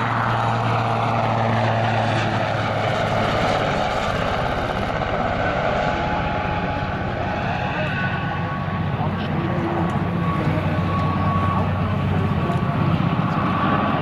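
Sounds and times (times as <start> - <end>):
helicopter rotor beat: 0.0 - 14.0
turbine engine whine: 0.0 - 14.0.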